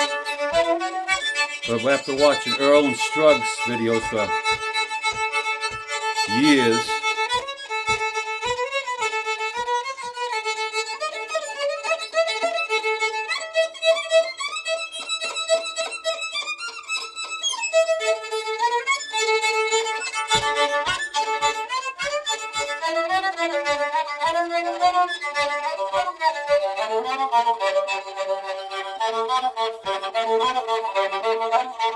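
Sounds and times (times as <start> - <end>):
solo fiddle tune: 0.0 - 31.9.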